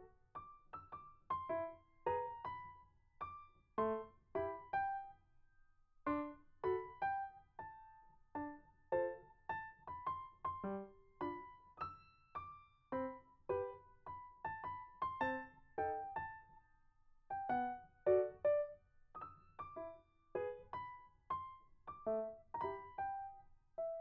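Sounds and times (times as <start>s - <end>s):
gentle keyboard melody: 0.0s - 5.2s, 6.1s - 16.7s, 17.3s - 24.0s.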